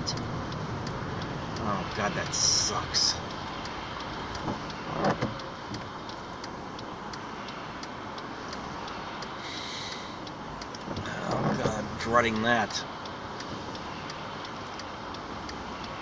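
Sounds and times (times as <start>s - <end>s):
car engine and tyres on road: 0.0s - 16.0s.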